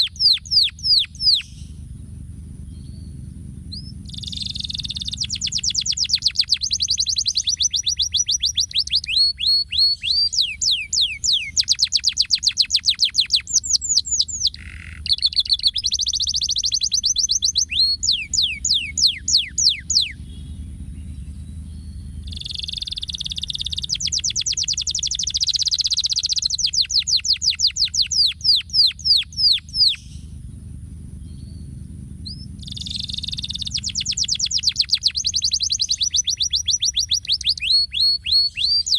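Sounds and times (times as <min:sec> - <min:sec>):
canary singing trills: 0:00.0 - 0:38.9
faint low hum: 0:00.0 - 0:38.9.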